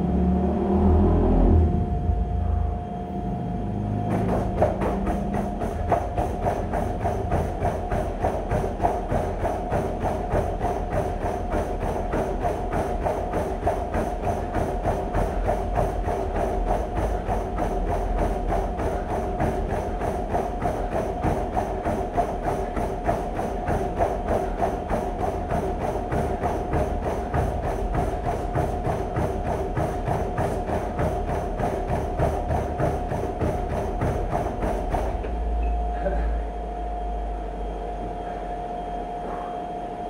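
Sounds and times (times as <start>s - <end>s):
treadmill motor whine: 0.0s - 40.0s
footfalls pounding on treadmill belt: 3.8s - 38.4s.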